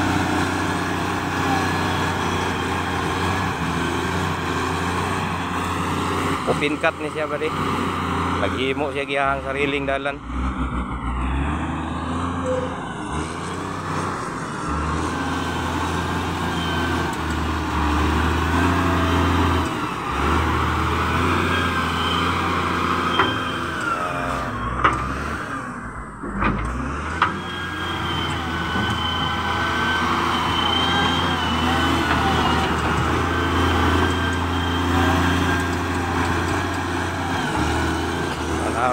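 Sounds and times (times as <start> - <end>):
diesel engine running under load: 0.0 - 38.9
high engine whine: 0.0 - 38.9.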